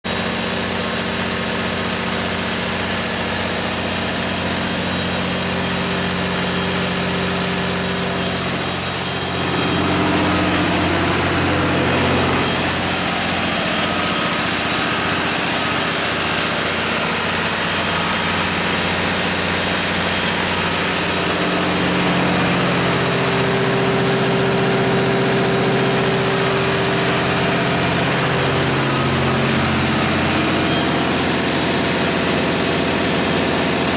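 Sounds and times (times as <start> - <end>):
diesel generator engine drone: 0.1 - 33.9.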